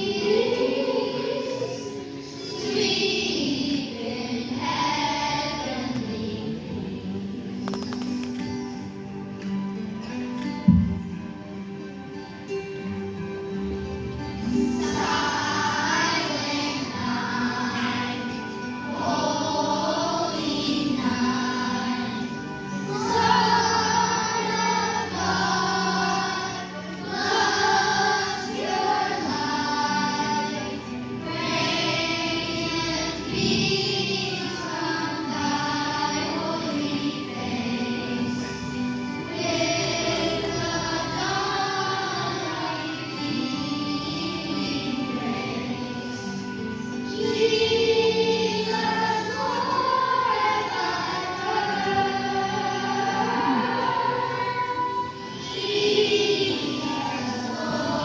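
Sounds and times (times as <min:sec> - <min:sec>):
group of voices singing: 0:00.0 - 0:07.9, 0:14.5 - 0:58.0
instrumental accompaniment: 0:00.0 - 0:58.0.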